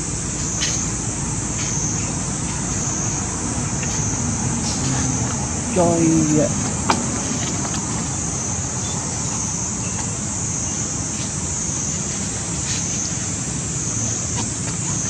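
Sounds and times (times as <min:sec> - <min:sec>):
high wavering hiss: 0:00.0 - 0:15.0.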